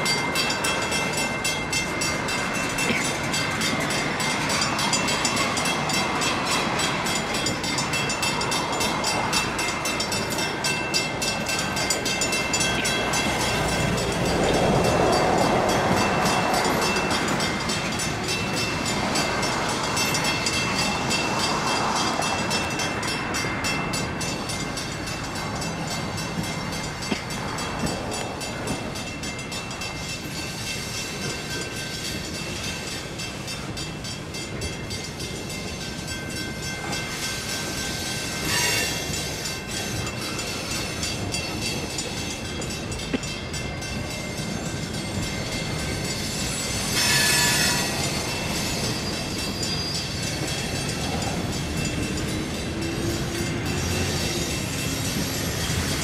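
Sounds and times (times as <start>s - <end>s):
crossing warning bell ringing: 0.0s - 56.0s
freight train rumbling: 0.0s - 56.0s.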